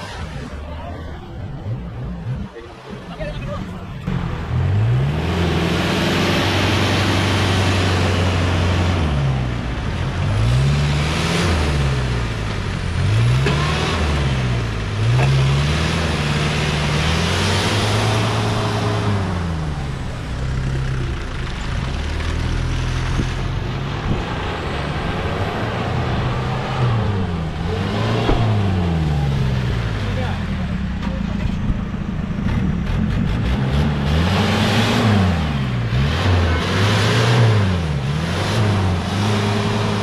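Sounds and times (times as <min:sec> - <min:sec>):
jeep engine revving: 0:00.0 - 0:40.0.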